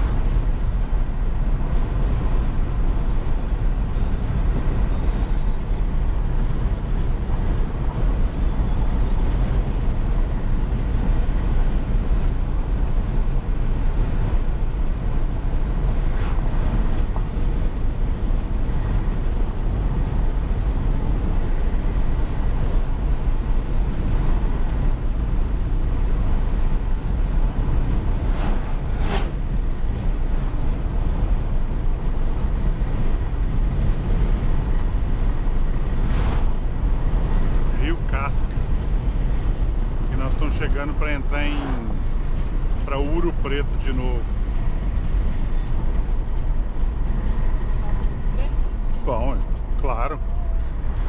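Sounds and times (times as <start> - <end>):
car cabin road rumble: 0.0 - 51.0.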